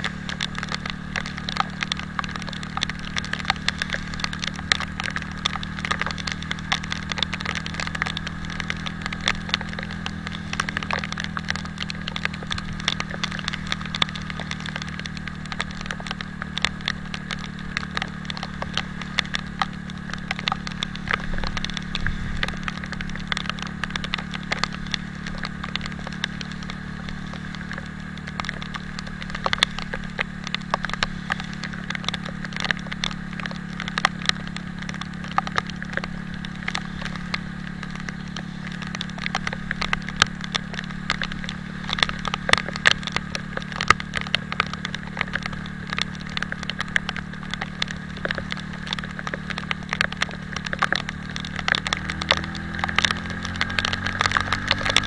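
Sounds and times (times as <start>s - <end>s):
motorcycle engine droning: 0.0s - 55.0s
raindrops ticking on microphone: 0.0s - 55.0s.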